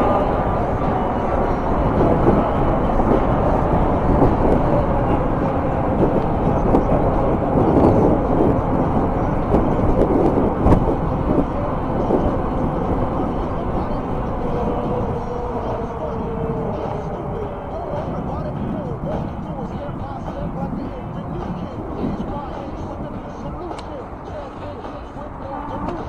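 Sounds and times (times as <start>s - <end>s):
bike tyres on paved path: 0.0s - 26.0s
highway traffic: 0.0s - 26.0s
wind on microphone: 0.0s - 26.0s.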